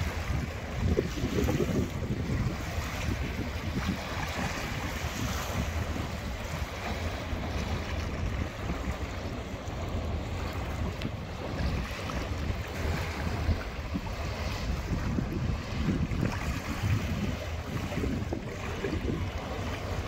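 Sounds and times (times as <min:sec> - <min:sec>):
choppy river water: 0:00.0 - 0:20.0
wind buffeting microphone: 0:00.0 - 0:20.0.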